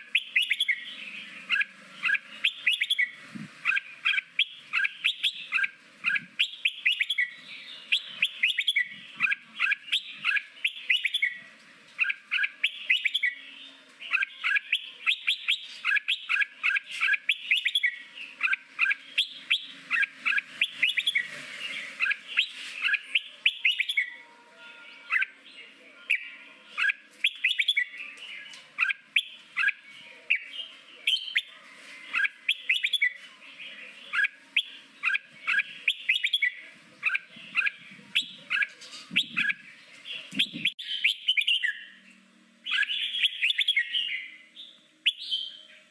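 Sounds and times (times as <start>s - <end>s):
bird chirping song: 0.0s - 45.9s.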